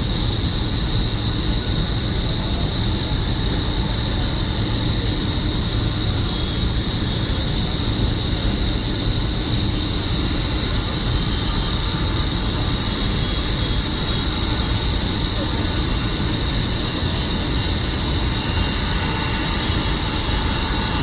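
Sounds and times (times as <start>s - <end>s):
jet engines rumbling with whine: 0.0s - 21.0s.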